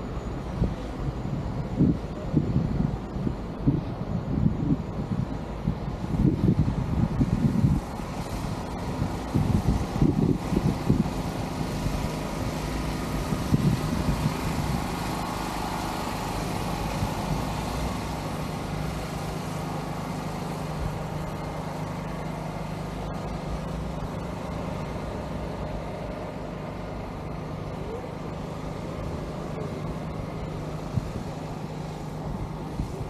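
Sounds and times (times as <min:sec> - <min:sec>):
low rumbling surges: 0:00.0 - 0:33.0.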